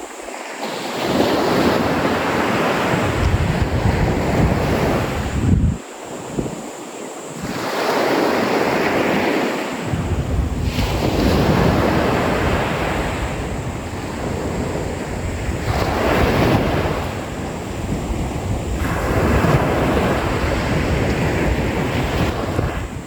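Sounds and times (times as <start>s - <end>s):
sea waves washing ashore: 0.0s - 23.0s
wind rumbling on microphone: 0.0s - 23.0s.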